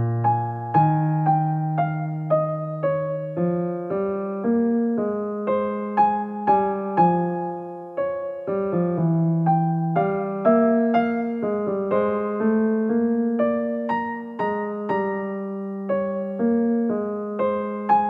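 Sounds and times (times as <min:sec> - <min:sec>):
calm piano music: 0:00.0 - 0:18.0.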